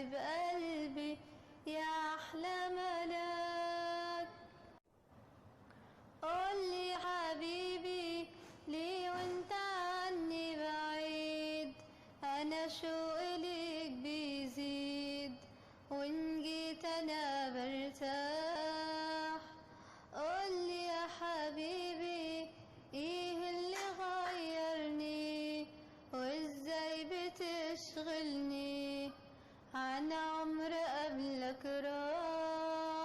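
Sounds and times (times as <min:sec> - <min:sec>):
girl singing: 0:00.0 - 0:04.7, 0:06.2 - 0:19.6, 0:20.2 - 0:33.0.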